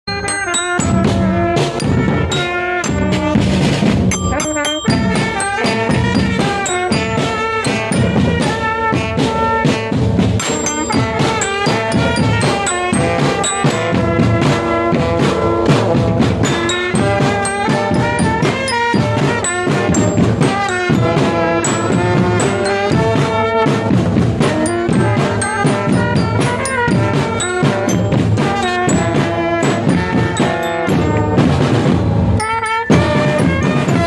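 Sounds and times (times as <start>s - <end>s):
brass horns playing melody: 0.1s - 34.0s
marching drums: 0.1s - 34.0s.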